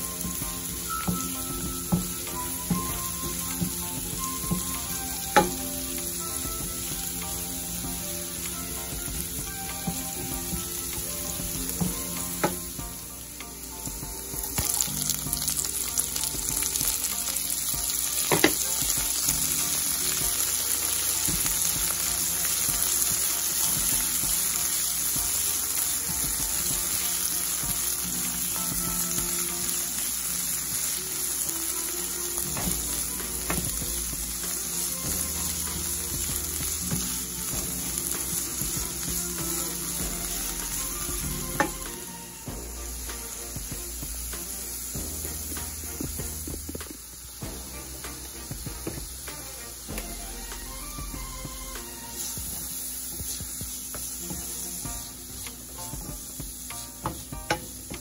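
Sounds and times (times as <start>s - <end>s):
onion sizzling in oil: 0.0s - 58.0s.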